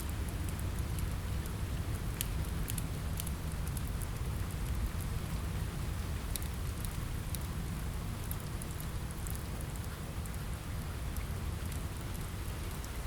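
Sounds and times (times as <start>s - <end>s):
rain against a window: 0.0s - 13.0s
wood fire crackling: 0.0s - 13.0s.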